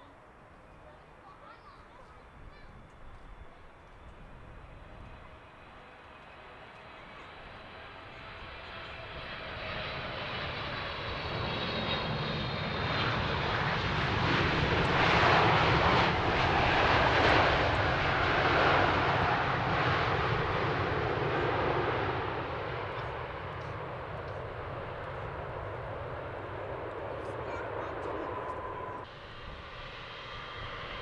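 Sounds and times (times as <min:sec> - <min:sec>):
jet airliner passing by: 0:02.2 - 0:31.0.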